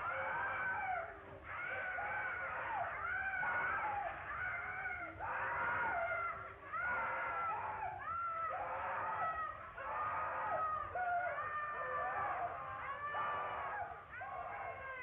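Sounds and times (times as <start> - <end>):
high wailing voices: 0.0 - 15.0.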